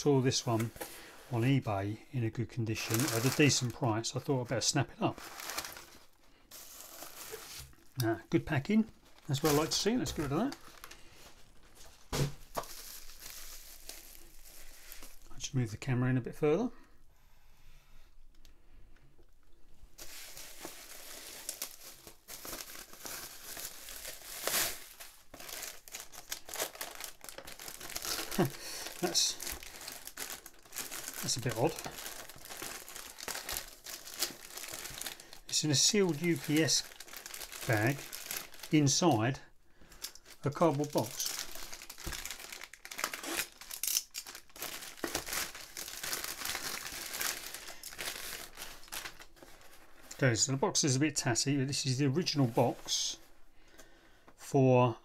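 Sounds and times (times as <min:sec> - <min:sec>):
bubble wrap and plastic bag rustling: 0:00.0 - 0:01.8, 0:02.5 - 0:15.4, 0:19.9 - 0:53.6.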